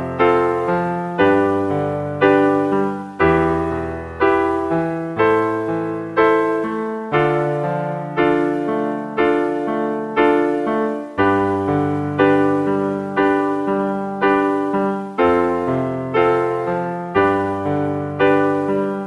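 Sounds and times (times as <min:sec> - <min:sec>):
electric piano chords: 0:00.0 - 0:19.0.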